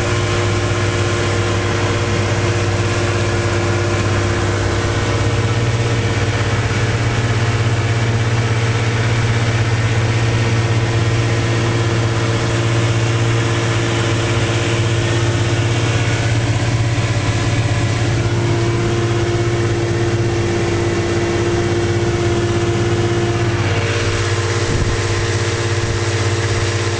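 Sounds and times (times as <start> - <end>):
outboard motor running: 0.0 - 26.9
rushing water: 0.0 - 26.9
wind: 0.0 - 26.9.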